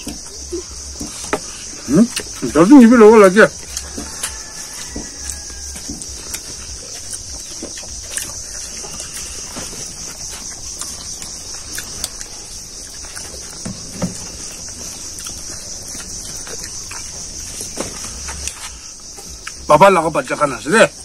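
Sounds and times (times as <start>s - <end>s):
people eating from steel plates: 0.0s - 19.8s
insects chorus: 0.0s - 21.0s.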